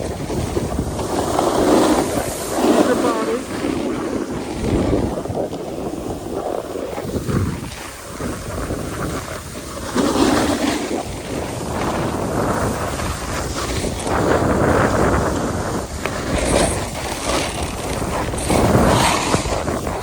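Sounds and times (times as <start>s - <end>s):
snowboard scraping over snow: 0.0s - 20.0s
wind buffeting microphone: 0.0s - 20.0s.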